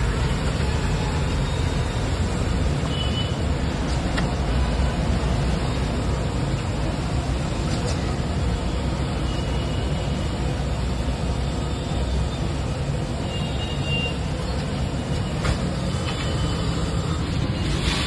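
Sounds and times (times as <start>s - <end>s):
road traffic rumbling: 0.0s - 18.0s.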